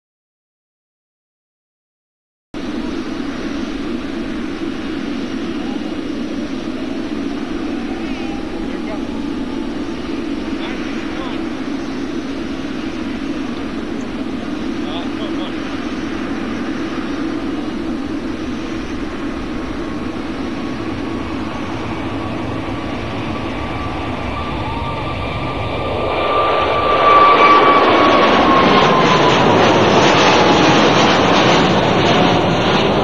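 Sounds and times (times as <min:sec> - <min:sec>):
high engine whine: 0:02.6 - 0:33.0
jet engines roaring at takeoff: 0:02.6 - 0:33.0.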